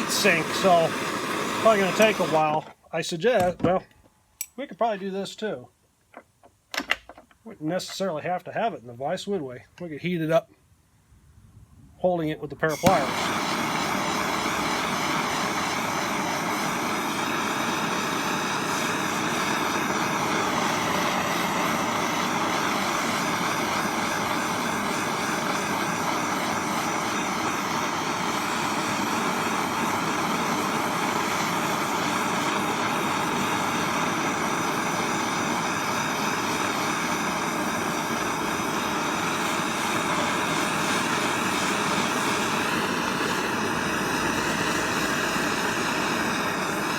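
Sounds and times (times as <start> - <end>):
gas torch hissing: 0.0 - 3.6, 12.3 - 46.9.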